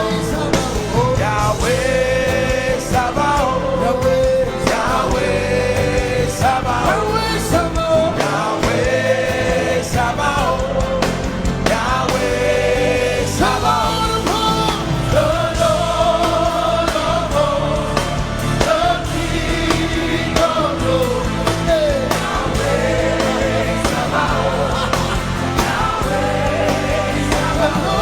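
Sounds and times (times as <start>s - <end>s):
band with steady drum beat: 0.0s - 28.0s
gospel singing: 0.0s - 28.0s.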